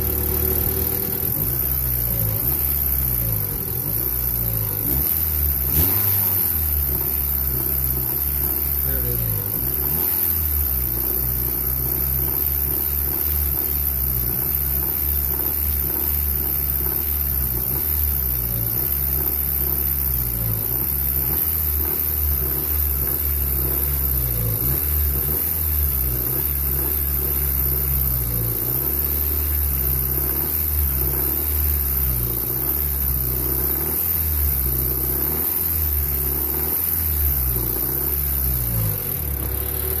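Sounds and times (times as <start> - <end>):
car engine revving: 0.0 - 40.0
engine knocking: 0.0 - 40.0.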